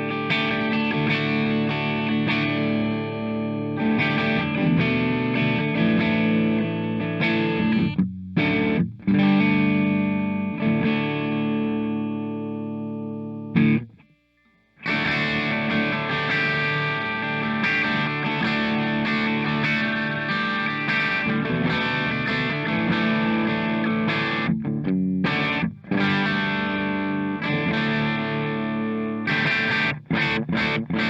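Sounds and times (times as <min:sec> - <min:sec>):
distorted electric guitar chords: 0:00.0 - 0:31.0.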